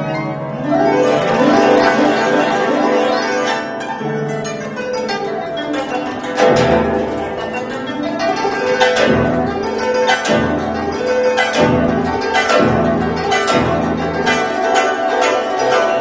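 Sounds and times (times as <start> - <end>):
deep bass zither notes: 0.0 - 16.0
plucked zither notes: 0.0 - 16.0.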